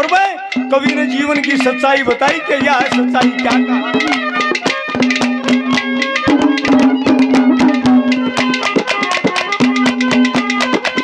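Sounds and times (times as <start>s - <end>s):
hand drum fast rhythm: 0.0s - 11.0s.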